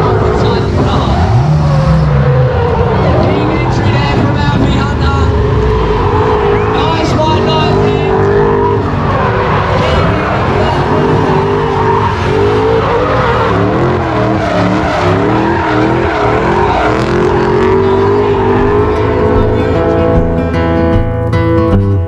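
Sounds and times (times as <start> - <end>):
car engine revving hard: 0.0 - 21.0
tyres skidding: 0.0 - 22.0.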